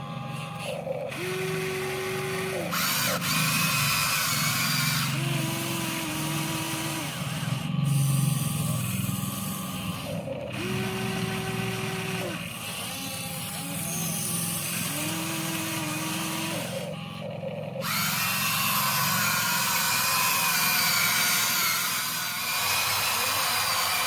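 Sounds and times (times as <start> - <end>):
steady gear hum: 0.0 - 24.0
toy excavator motors whining: 0.0 - 24.0.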